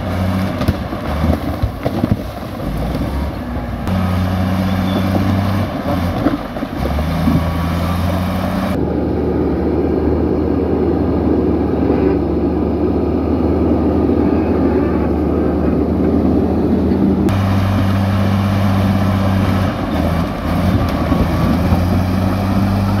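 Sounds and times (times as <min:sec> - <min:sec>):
bulldozer diesel engine: 0:00.0 - 0:23.0
bulldozer pushing soil and rocks: 0:00.0 - 0:23.0.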